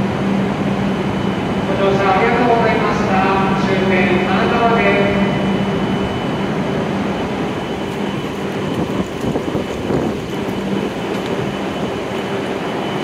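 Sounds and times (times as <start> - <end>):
train low hum: 0.0 - 13.0.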